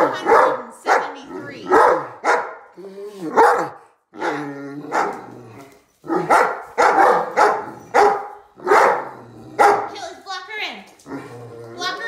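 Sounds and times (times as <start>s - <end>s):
big dog barking: 0.0s - 10.0s.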